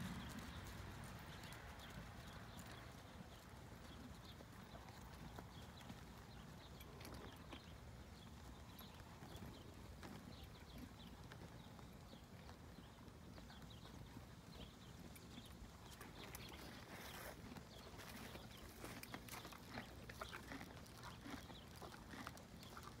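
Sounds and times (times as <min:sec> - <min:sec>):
hoofbeats on soft dirt: 0:00.0 - 0:23.0.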